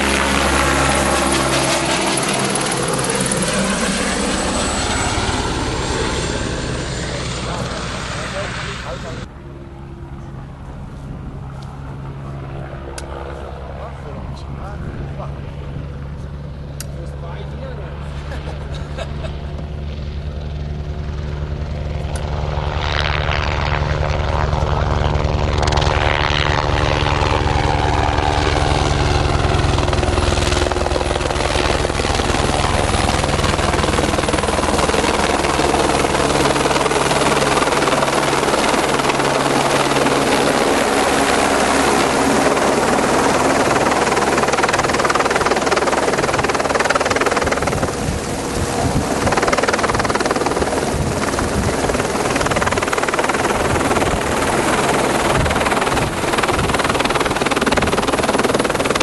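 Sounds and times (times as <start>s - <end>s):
helicopter flying close: 0.0s - 59.0s.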